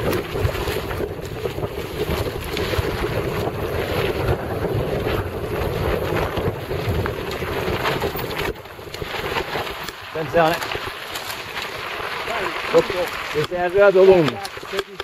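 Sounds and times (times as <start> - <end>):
wind rushing over microphone: 0.0 - 14.3
bike rattling over rough ground: 0.0 - 15.0.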